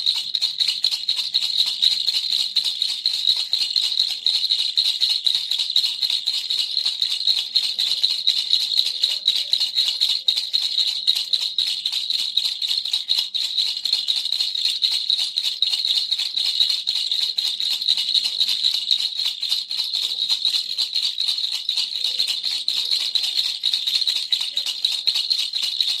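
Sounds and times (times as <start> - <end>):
baby rattle shaken: 0.0 - 26.0.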